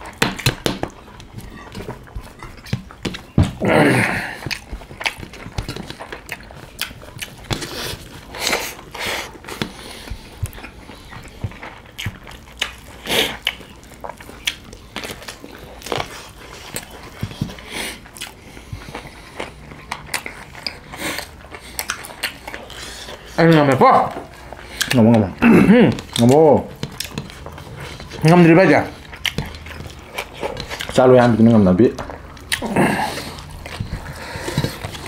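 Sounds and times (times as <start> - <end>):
people chewing and lip-smacking: 0.0 - 35.0.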